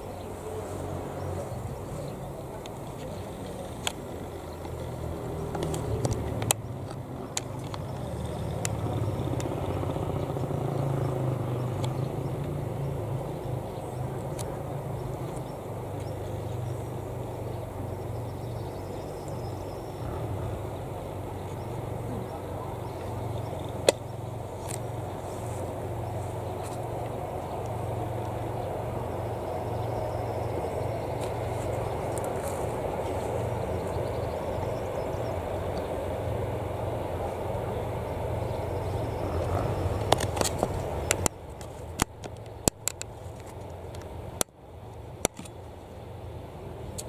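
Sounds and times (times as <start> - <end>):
electric train rumbling: 0.0 - 47.0.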